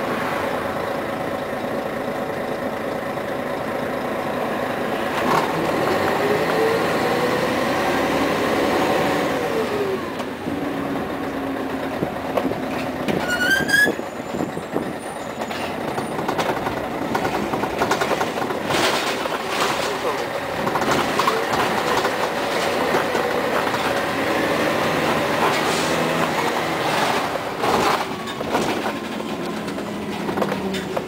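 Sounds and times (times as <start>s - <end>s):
bus engine running: 0.0s - 31.0s
engine whine: 0.0s - 31.0s.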